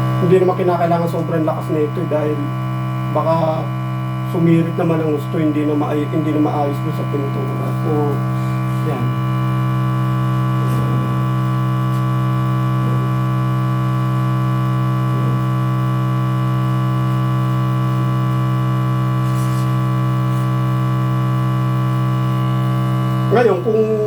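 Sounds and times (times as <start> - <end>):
small compressor humming: 0.0 - 24.0.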